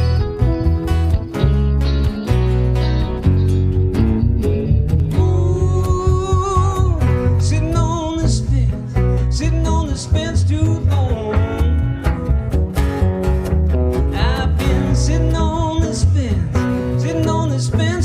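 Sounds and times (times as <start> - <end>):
bass guitar: 0.0 - 18.0
lead guitar with bent notes: 0.0 - 18.0.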